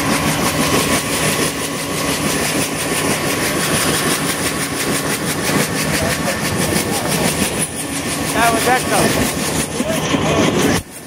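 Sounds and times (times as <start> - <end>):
helicopter turbine whine: 0.0 - 11.0
rotor blades chopping: 0.3 - 11.0.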